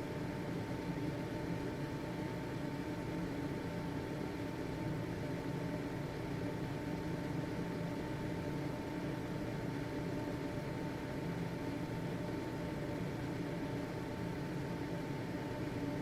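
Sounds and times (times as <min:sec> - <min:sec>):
ventilation fan whirring: 0:00.0 - 0:16.0.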